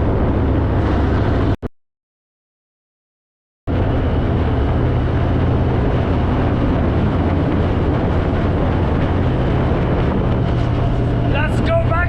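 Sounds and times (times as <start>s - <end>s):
vehicle engine rumbling: 0.0s - 1.6s, 3.7s - 12.0s.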